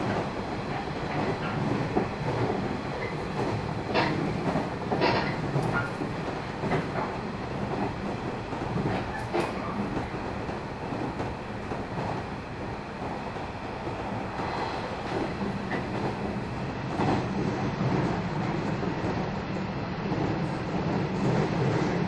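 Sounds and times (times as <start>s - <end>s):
rail-joint clicks: 0.0s - 22.0s
train wheels rumbling on rails: 0.0s - 22.0s.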